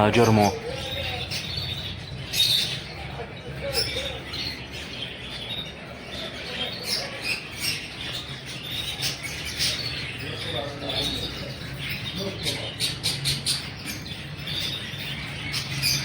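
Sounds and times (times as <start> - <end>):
busy market murmur: 0.0 - 16.0
caged birds chirping and squawking: 0.0 - 16.0.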